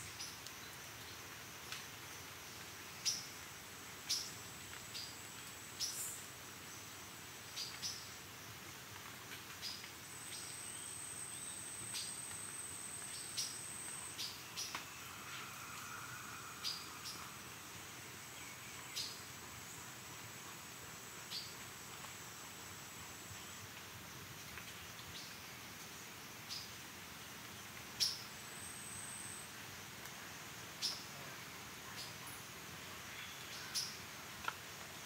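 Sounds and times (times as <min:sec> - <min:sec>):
high insect whine: 0:00.0 - 0:35.0
insect drone: 0:00.0 - 0:35.0.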